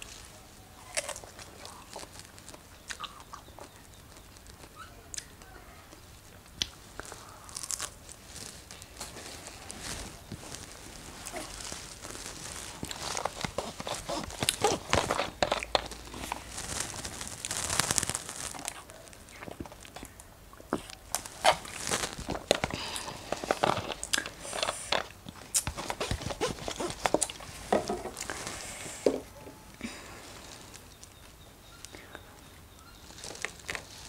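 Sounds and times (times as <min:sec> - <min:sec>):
plastic bottle crinkling: 0:00.0 - 0:04.8, 0:05.9 - 0:32.1, 0:32.7 - 0:34.0.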